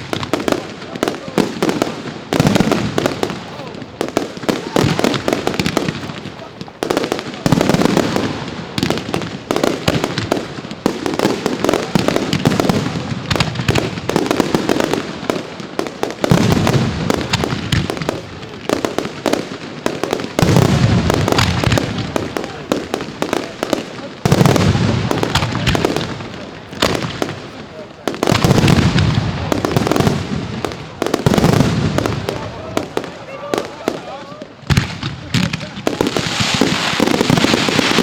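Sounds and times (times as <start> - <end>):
deep fireworks booms: 0.0 - 38.0
fireworks crackling and banging: 0.0 - 38.0.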